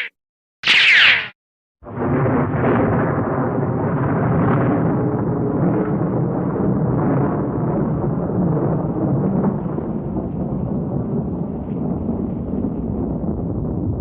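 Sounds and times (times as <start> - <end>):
long rumbling roar: 1.9 - 14.0.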